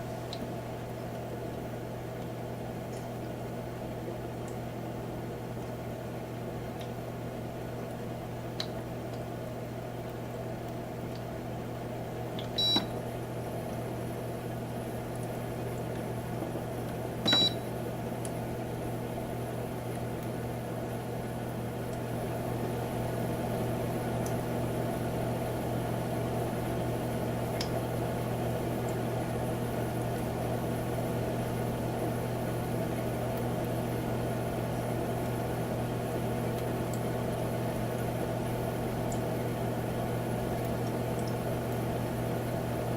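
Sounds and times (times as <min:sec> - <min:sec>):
humidifier humming and hissing: 0:00.0 - 0:42.9.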